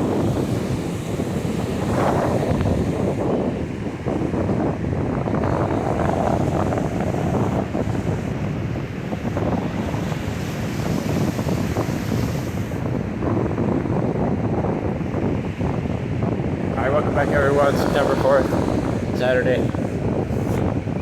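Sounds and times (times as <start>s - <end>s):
ocean surf: 0.0s - 14.2s, 14.8s - 21.0s
wind buffeting microphone: 0.0s - 21.0s.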